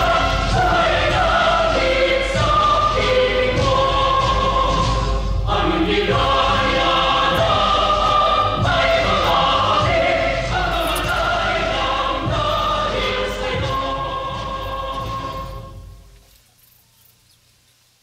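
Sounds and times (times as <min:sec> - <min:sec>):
choir singing held chords: 0:00.0 - 0:16.2.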